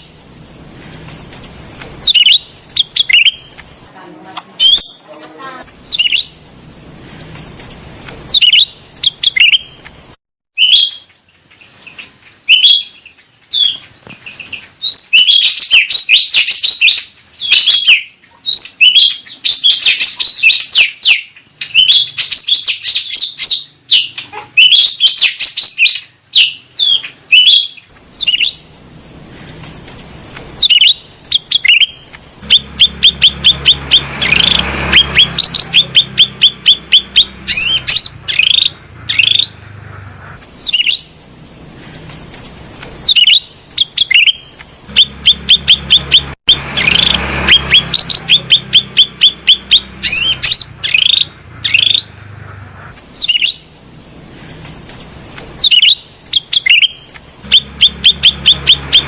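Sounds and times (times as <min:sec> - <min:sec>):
songbird chirping: 0:00.0 - 0:10.0, 0:10.6 - 0:59.0.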